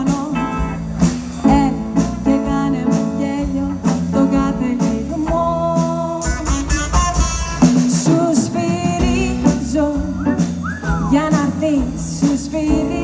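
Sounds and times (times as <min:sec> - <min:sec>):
drum kit beat: 0:00.0 - 0:13.0
guitar: 0:00.0 - 0:13.0
swing band playing: 0:00.0 - 0:13.0.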